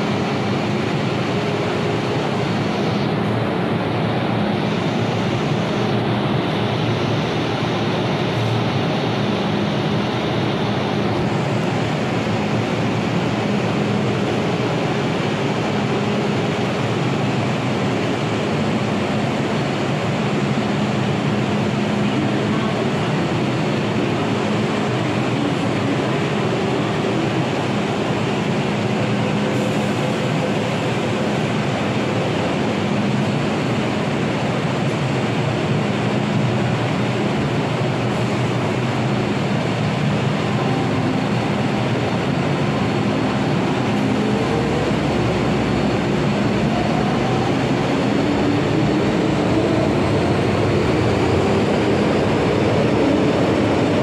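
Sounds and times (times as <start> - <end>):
train hiss and rumble: 0.0 - 54.0.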